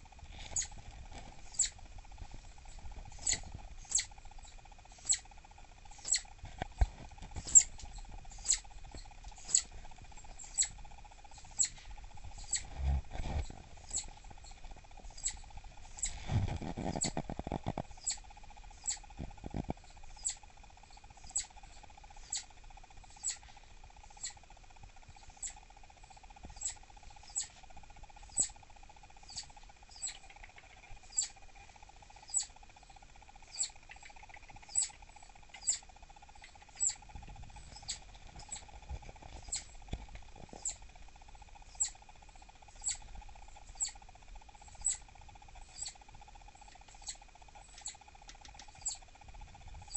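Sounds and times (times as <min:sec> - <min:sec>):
flying squirrel chirping: 0:00.4 - 0:01.9, 0:02.5 - 0:06.4, 0:07.4 - 0:16.2, 0:16.8 - 0:19.1, 0:20.0 - 0:23.4, 0:24.1 - 0:24.4, 0:25.0 - 0:39.9, 0:40.5 - 0:49.9.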